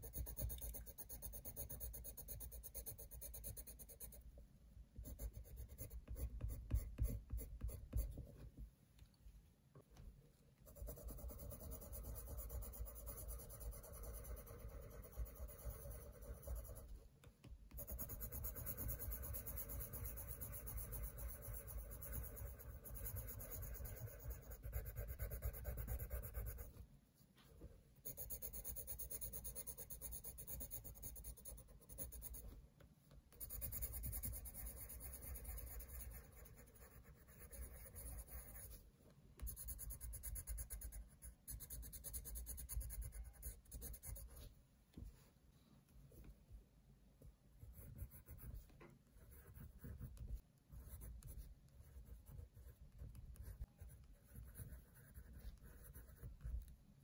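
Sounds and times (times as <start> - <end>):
coloured pencil scratching on paper: 0.0 - 4.3, 5.0 - 8.4, 10.6 - 17.0, 17.7 - 26.8, 28.0 - 32.6, 33.3 - 38.8, 39.4 - 44.5, 47.6 - 56.8.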